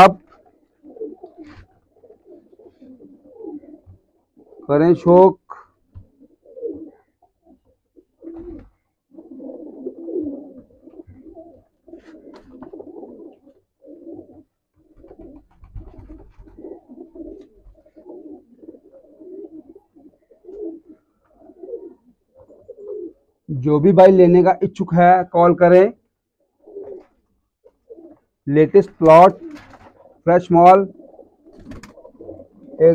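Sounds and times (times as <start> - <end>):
pigeons cooing: 0.0 - 23.5, 26.3 - 28.4, 29.0 - 32.9.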